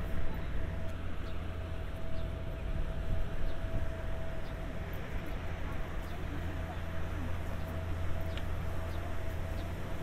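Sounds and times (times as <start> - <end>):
faint constant whine: 0.0 - 10.0
low motor rumble: 0.0 - 10.0.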